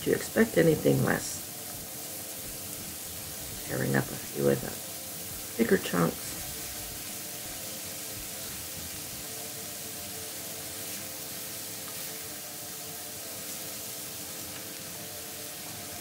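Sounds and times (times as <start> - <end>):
cabbage sizzling in a pot: 0.0 - 16.0.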